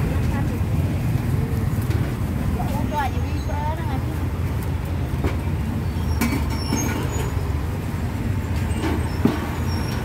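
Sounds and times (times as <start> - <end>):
street traffic rumbling: 0.0 - 10.0.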